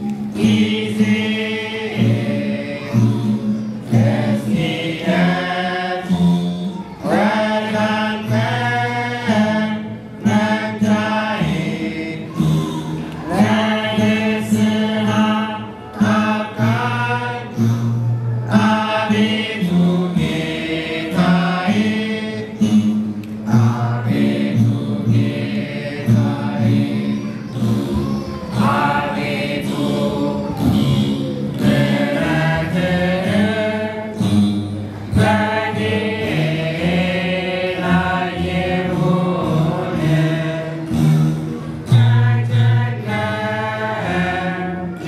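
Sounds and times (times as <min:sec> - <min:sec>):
men chanting a sacred song: 0:00.1 - 0:17.8, 0:18.4 - 0:22.8, 0:23.5 - 0:34.4, 0:35.0 - 0:41.3.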